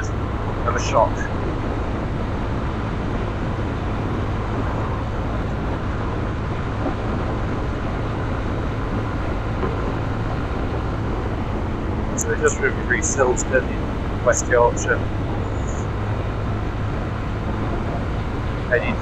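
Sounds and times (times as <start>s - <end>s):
motorcycle engine drone: 0.0s - 19.0s
wind rush on microphone: 0.0s - 19.0s.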